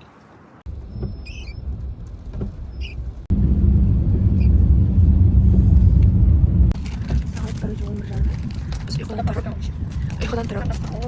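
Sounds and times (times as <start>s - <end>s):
vehicle rumble from inside: 0.6s - 11.0s.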